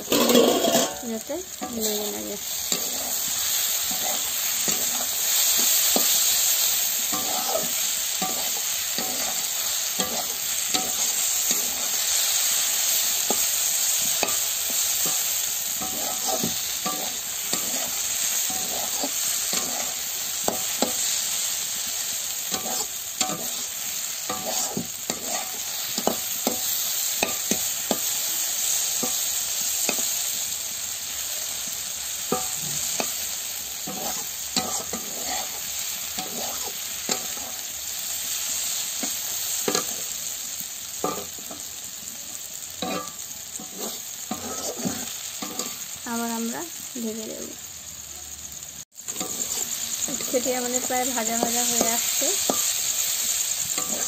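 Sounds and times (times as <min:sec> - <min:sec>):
spatula scraping pan: 0:00.0 - 0:30.1, 0:32.3 - 0:38.4, 0:42.8 - 0:45.9, 0:49.1 - 0:54.0
vegetables sizzling in oil: 0:00.0 - 0:54.0.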